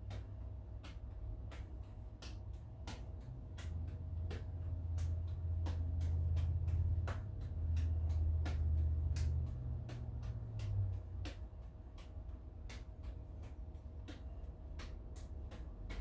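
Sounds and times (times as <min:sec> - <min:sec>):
juggling balls landing in hands: 0:00.0 - 0:16.0.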